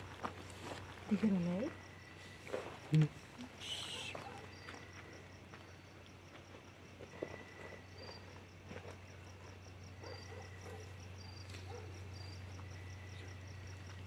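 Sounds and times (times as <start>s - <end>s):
crickets chirping: 0.0s - 14.0s
low steady hum: 0.0s - 14.0s.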